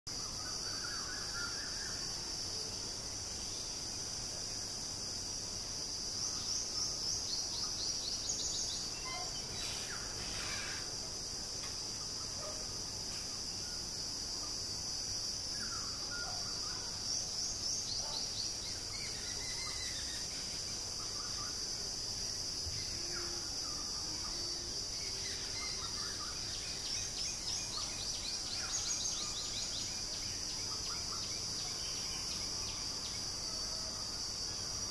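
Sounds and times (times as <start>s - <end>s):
insect drone with pulsed trills: 0.1s - 34.9s.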